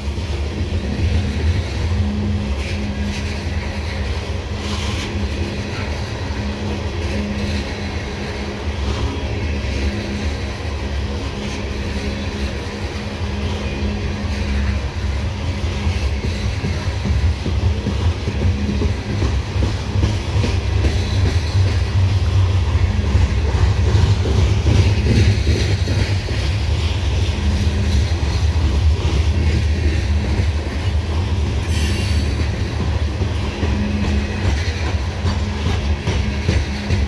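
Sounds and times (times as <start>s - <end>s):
freight train rumbling past: 0.0s - 37.0s.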